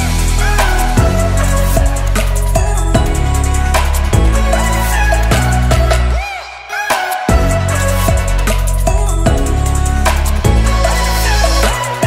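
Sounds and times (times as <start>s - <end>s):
music with bass and drum beat: 0.0s - 6.3s, 7.3s - 12.0s.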